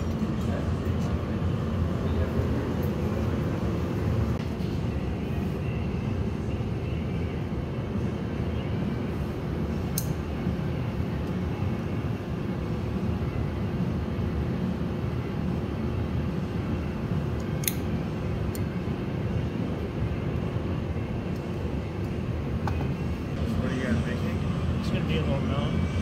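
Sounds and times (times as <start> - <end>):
exhaust fans: 0.0 - 26.0
furnace and burners roaring: 0.0 - 26.0.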